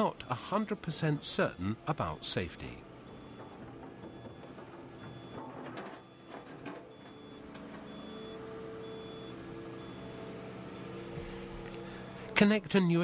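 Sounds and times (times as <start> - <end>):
warning buzzer beeping: 0.0 - 11.4
hydraulic tone: 0.0 - 12.4
excavator engine running: 0.0 - 13.0.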